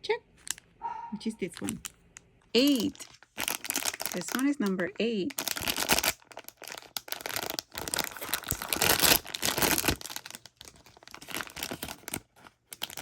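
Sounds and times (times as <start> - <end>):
plastic bag crinkling and tearing: 2.6 - 13.0.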